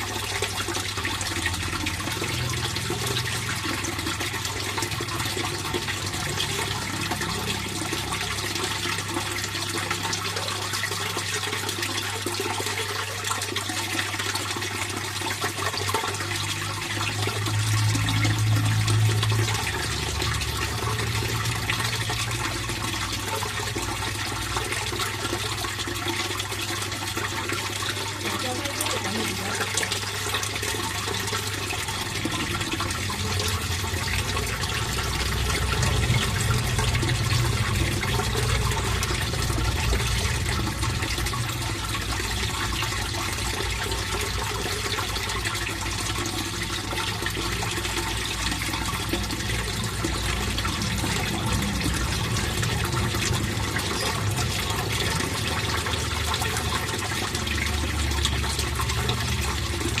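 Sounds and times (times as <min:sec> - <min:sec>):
water splashing into pond: 0:00.0 - 1:00.0.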